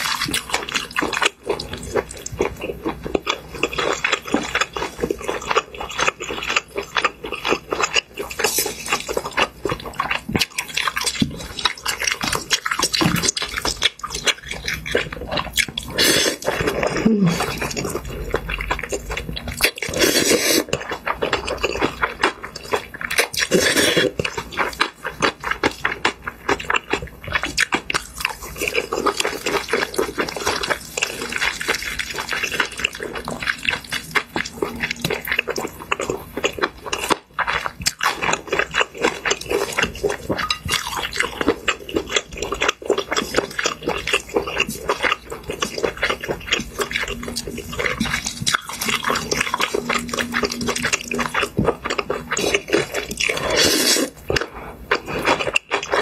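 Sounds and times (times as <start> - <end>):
noodles slurped and chewed: 0.0 - 56.0.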